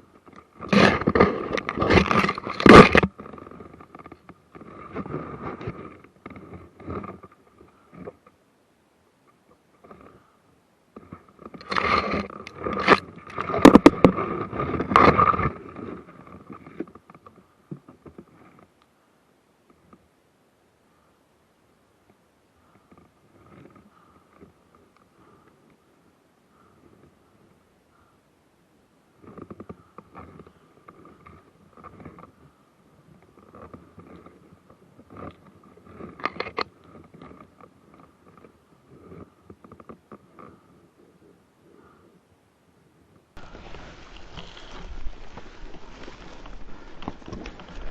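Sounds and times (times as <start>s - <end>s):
rustling and scraping: 0.0s - 8.4s, 9.4s - 18.8s, 22.6s - 25.8s, 29.2s - 42.0s, 43.4s - 47.9s.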